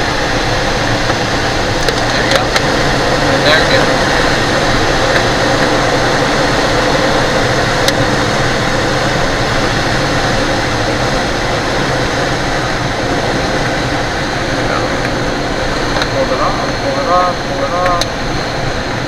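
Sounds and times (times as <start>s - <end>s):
rushing air in glider cockpit: 0.0s - 19.0s.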